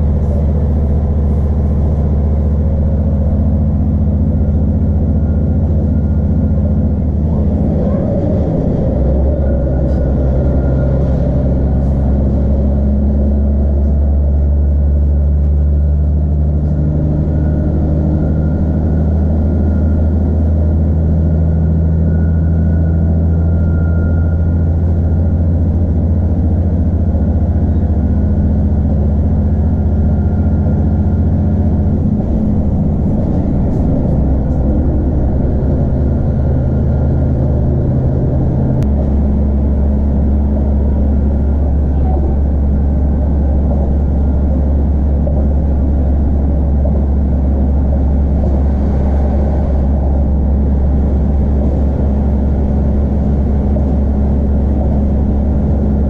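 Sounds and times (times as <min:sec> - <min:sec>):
diesel engine drone: 0:00.0 - 0:56.0
train wheels rumbling on rails: 0:00.0 - 0:56.0.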